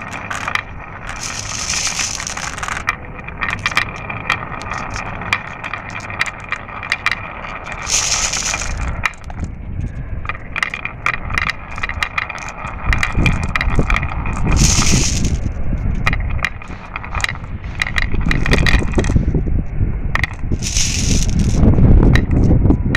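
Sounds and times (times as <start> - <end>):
marbles clicking on a track: 0.0 - 22.9
marbles rolling rumble: 0.0 - 22.9.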